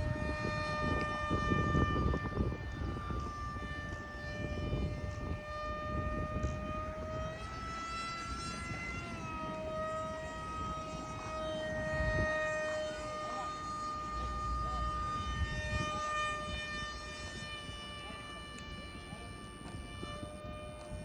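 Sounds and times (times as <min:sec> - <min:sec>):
model plane motor whining: 0:00.0 - 0:21.0.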